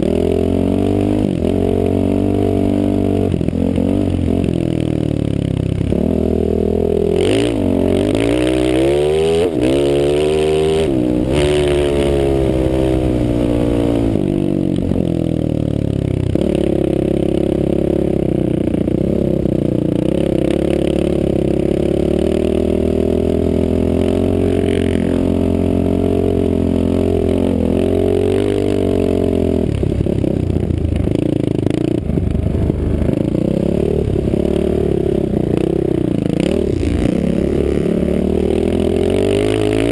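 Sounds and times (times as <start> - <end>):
off-road vehicle engine revving: 0.0 - 15.7, 18.8 - 39.9.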